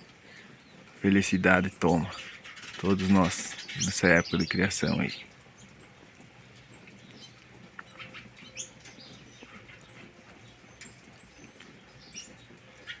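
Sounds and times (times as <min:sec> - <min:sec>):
birds chirping short high calls: 0:00.2 - 0:13.0.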